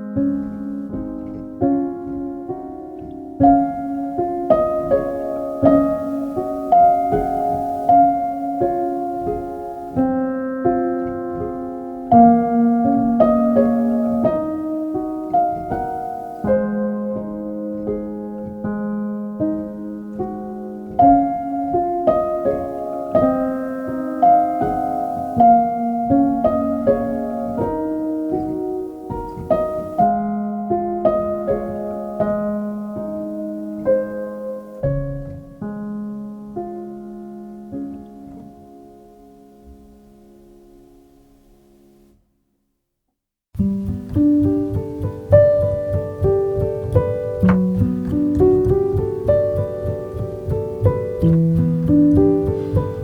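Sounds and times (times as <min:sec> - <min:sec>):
soft slow piano music: 0:00.0 - 0:42.3, 0:43.6 - 0:53.0.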